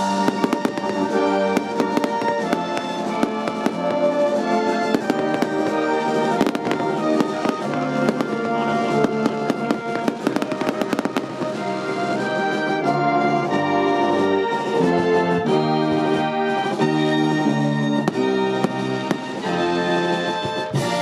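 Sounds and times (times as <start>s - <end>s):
fireworks bursting and crackling: 0.0s - 21.0s
military band playing: 0.0s - 21.0s.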